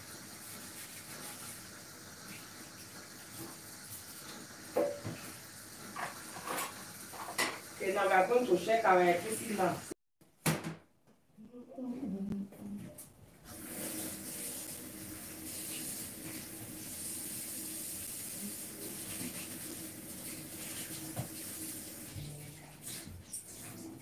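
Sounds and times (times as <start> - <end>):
kitchen tap running: 0.0 - 10.0, 13.4 - 24.0.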